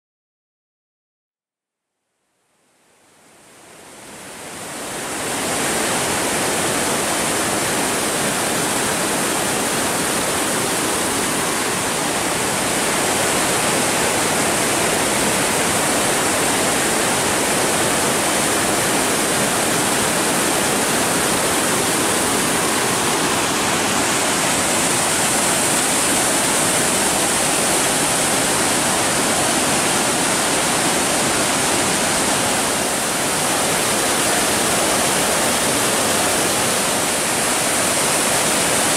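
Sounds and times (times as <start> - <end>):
flooded creek rushing over boulders: 3.6 - 38.9.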